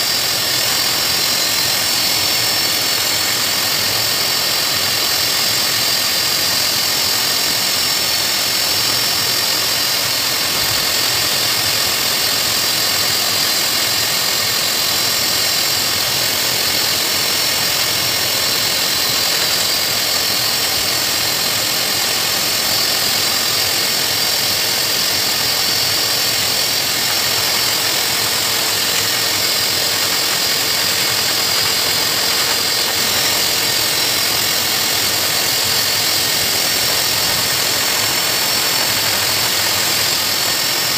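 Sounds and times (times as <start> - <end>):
blow dryer rushing with whine: 0.0 - 40.9.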